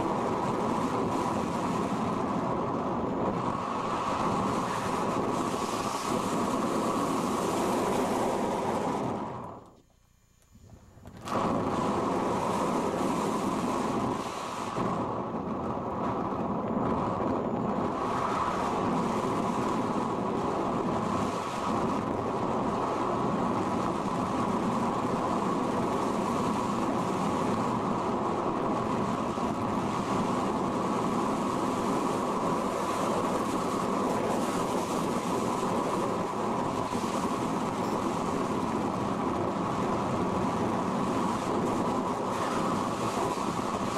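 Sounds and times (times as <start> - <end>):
air rushing over model glider: 0.0 - 9.9, 10.6 - 43.9.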